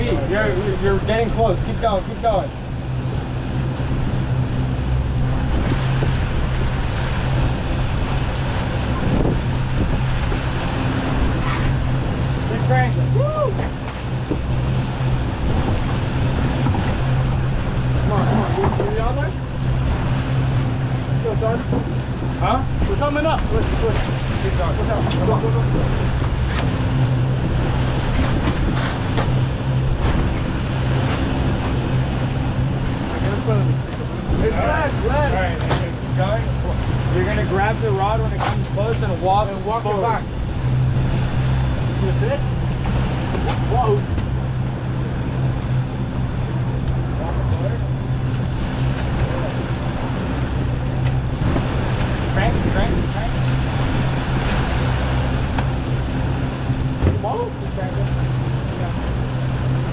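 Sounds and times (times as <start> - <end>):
outboard motors humming: 0.0 - 59.9
water noise: 0.0 - 59.9
wind: 0.0 - 59.9.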